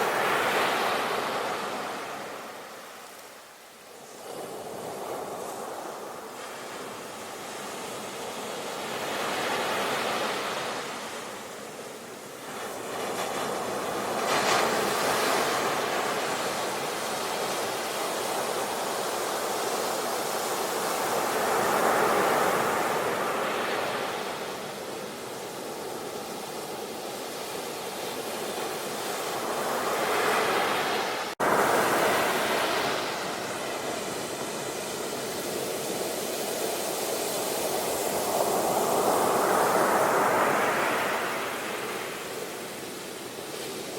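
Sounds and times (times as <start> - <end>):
ocean waves breaking: 0.0 - 3.0, 4.2 - 43.9.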